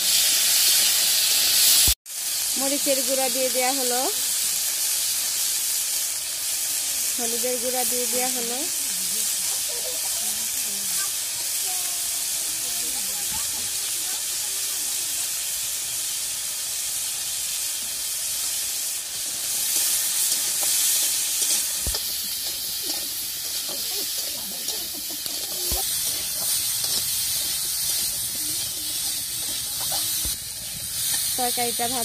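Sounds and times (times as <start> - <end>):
vegetables sizzling in hot oil: 0.0 - 32.0.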